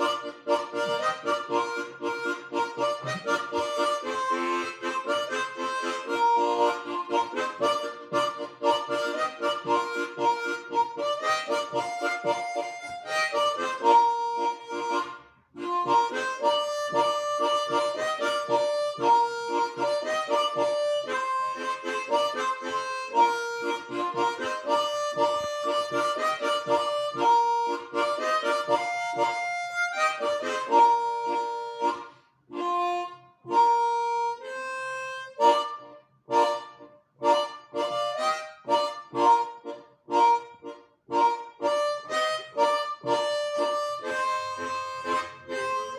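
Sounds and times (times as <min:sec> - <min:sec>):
reedy wind instrument melody: 0:00.0 - 0:45.9.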